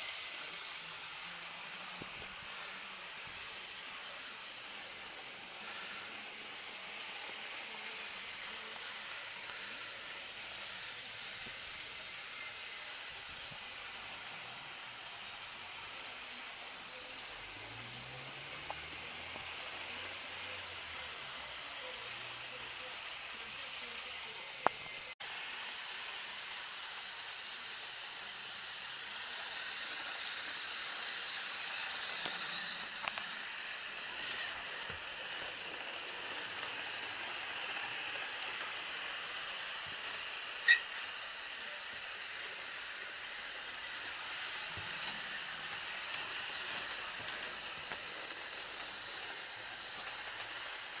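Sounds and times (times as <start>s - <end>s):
model train whirring on track: 0.0s - 51.0s.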